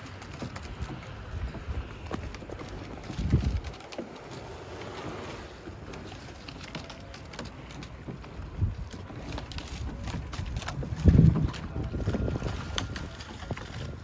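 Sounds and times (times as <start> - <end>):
wind buffeting microphone: 0.0 - 6.2, 7.9 - 14.0.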